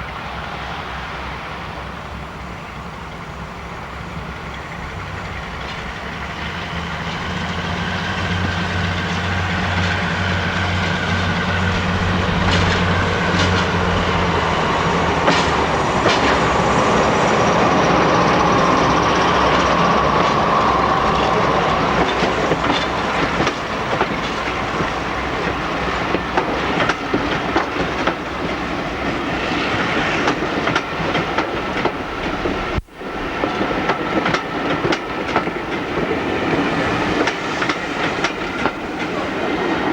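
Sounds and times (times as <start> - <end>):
diesel train engine throb: 0.0 - 39.9
train wheels clattering over rail joints: 2.2 - 39.9.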